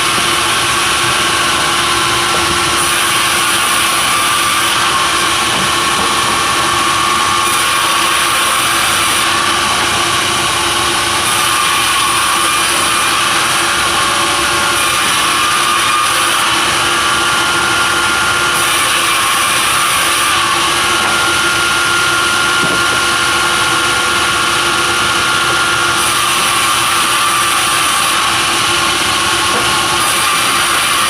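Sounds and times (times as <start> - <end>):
constant machine whine: 0.0 - 31.0
sawmill machinery running: 0.0 - 31.0.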